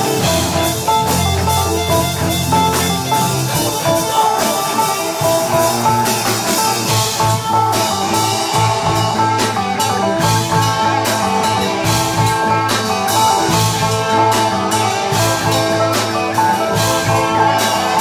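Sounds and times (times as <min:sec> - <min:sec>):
drum kit: 0:00.0 - 0:18.0
guitar: 0:00.0 - 0:18.0.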